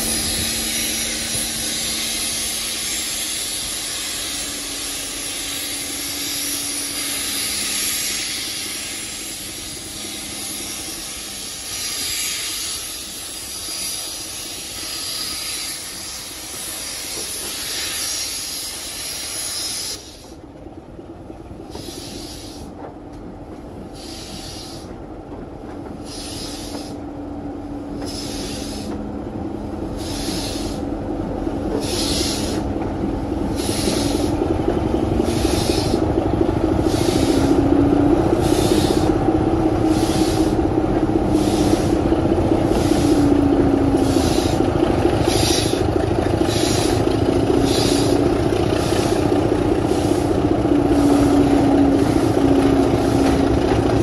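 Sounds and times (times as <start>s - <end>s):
steam hissing: 0.0s - 20.4s, 21.7s - 22.8s, 23.9s - 24.9s, 26.0s - 27.0s, 27.8s - 29.0s, 29.6s - 31.0s, 31.6s - 32.8s, 33.4s - 34.5s, 35.1s - 54.0s
steam locomotive exhaust chuffs: 0.0s - 54.0s.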